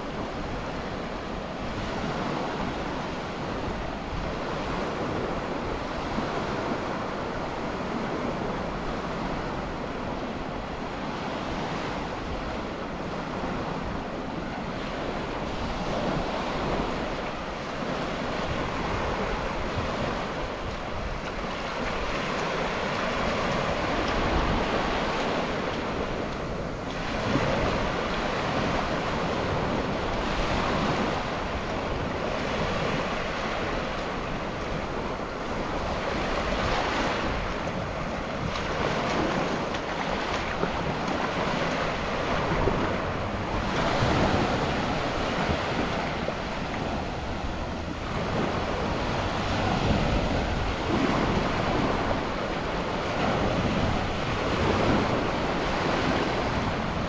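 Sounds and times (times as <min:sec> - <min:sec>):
waves washing onto beach: 0:00.0 - 0:57.0
wind buffeting microphone: 0:00.0 - 0:57.0.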